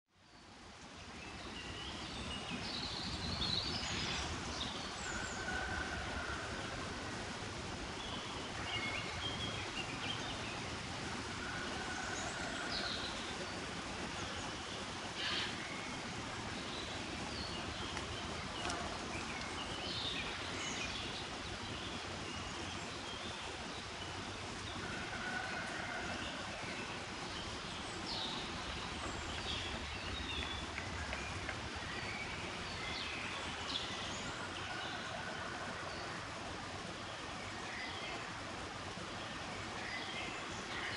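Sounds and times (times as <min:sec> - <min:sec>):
low wind rumble: 0:00.2 - 0:40.9
birds chirping: 0:00.4 - 0:40.9.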